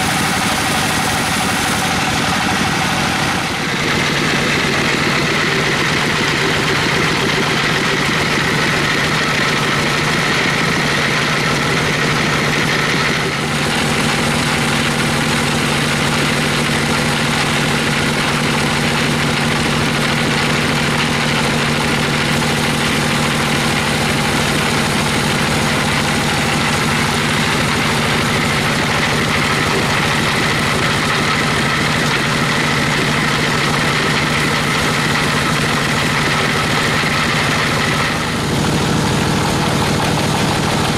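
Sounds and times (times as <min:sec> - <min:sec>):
sawmill engine drone: 0:00.0 - 0:40.9.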